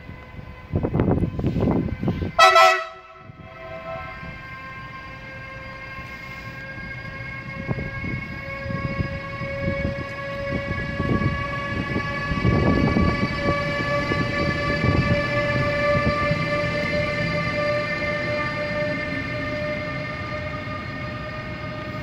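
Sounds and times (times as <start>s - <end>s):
electric locomotive whine: 0.0s - 22.0s.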